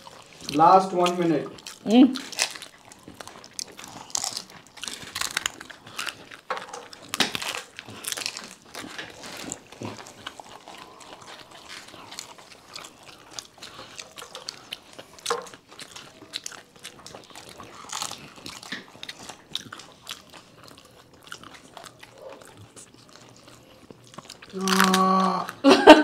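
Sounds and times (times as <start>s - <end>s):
crunching and chewing: 0.0s - 26.0s.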